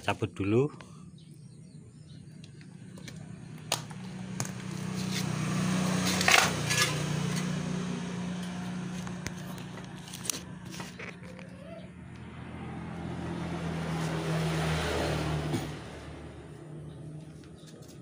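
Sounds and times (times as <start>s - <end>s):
engine passing by: 1.0s - 18.0s.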